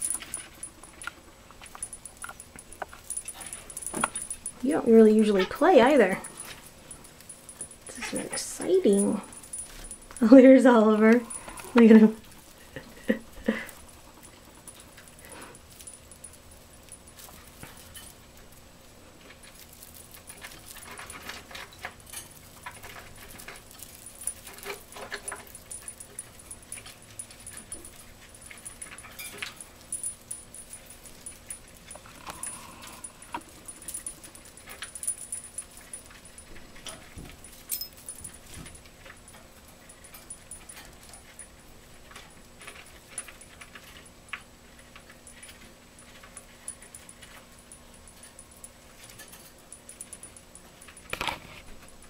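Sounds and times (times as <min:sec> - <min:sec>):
bird toy rustling and clicking: 0:00.0 - 0:52.0.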